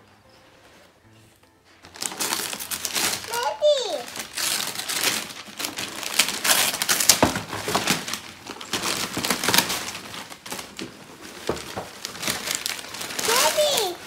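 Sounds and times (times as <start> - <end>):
wrapping paper tearing and crumpling: 1.7 - 14.0.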